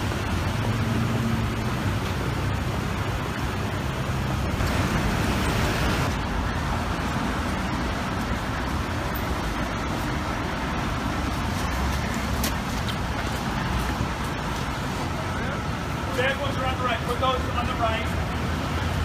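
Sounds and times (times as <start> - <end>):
passing cars: 0.0 - 19.0.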